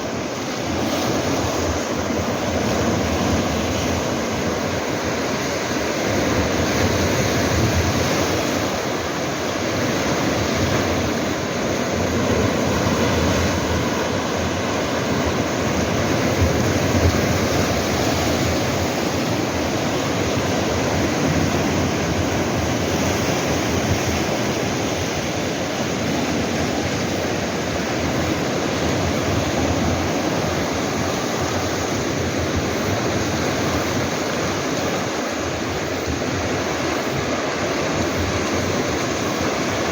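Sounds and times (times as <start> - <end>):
waves washing over rocks: 0.0 - 39.9.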